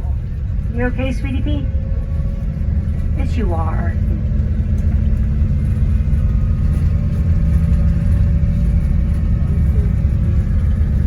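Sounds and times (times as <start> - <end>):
car engine noise: 0.0 - 11.0
road rumble inside car: 0.0 - 11.0.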